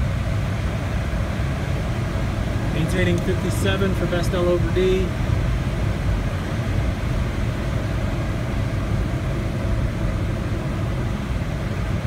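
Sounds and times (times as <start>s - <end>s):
airflow rushing over glider canopy: 0.0s - 12.0s.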